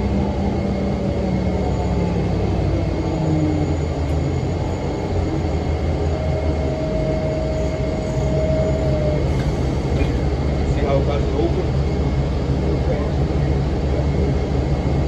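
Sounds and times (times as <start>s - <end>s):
bus diesel engine drone: 0.0s - 15.0s
steady whine: 0.0s - 15.0s.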